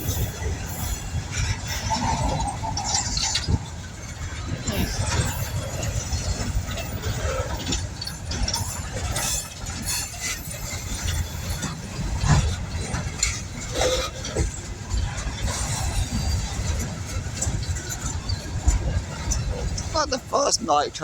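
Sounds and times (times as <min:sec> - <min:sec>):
train cars clanking: 0:00.0 - 0:21.0
train wheels rumbling on rail: 0:00.0 - 0:21.0.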